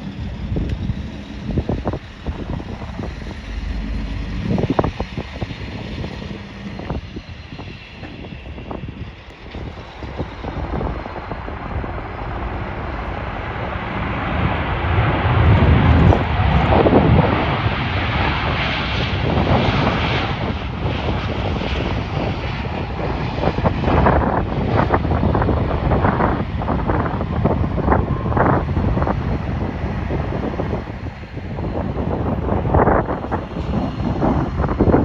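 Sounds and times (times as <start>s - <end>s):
jet airliner engines: 0.0s - 35.0s
wind buffeting microphone: 0.0s - 35.0s.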